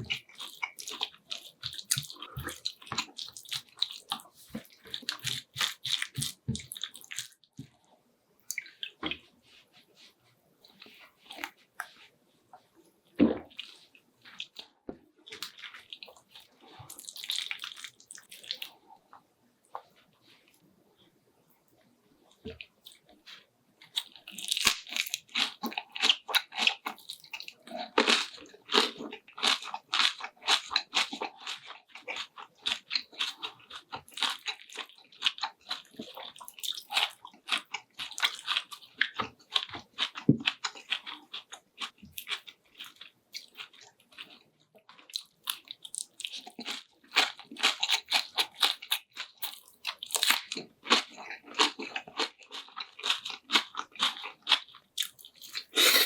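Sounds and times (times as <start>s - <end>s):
person chewing crunchy food: 0.0s - 7.9s, 8.5s - 12.1s, 13.1s - 20.6s, 22.2s - 56.0s.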